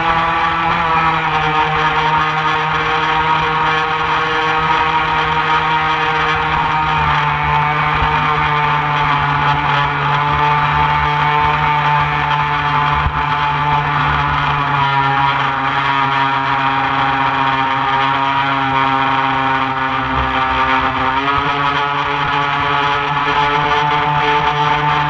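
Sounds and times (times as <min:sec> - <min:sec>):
model boat motor whining: 0:00.0 - 0:25.0
water splashing along hull: 0:00.0 - 0:25.0.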